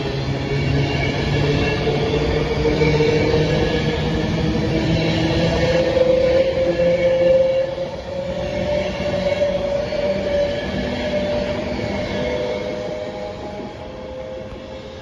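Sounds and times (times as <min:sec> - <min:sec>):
train traction whine: 0:00.0 - 0:15.0
train wheels rumbling: 0:00.0 - 0:15.0.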